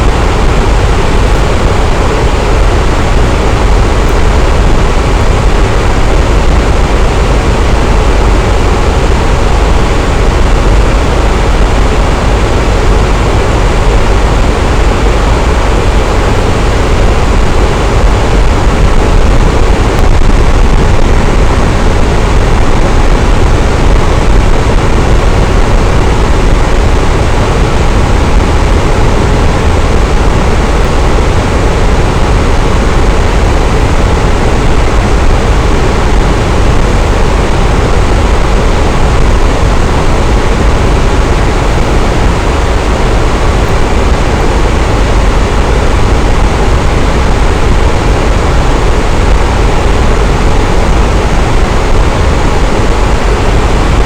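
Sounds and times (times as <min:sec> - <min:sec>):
electric fan running: 0:00.0 - 0:54.0.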